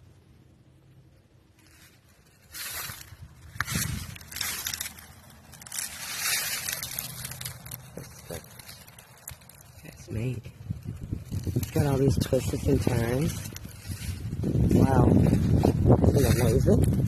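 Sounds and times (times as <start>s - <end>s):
rustling and crunching: 1.4s - 17.0s.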